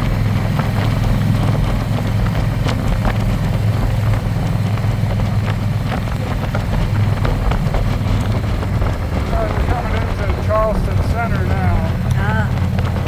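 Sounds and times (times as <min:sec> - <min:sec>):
motorcycle engine cruising: 0:00.0 - 0:13.0
wind rush: 0:00.0 - 0:13.0.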